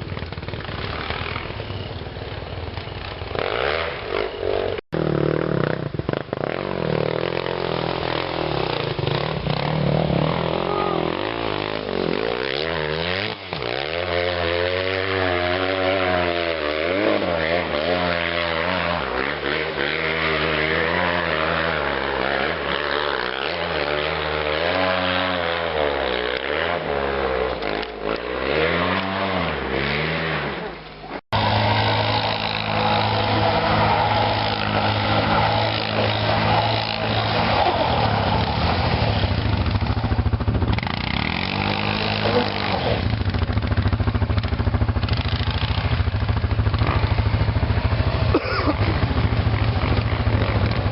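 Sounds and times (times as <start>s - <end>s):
engine revving: 2.9s - 50.9s.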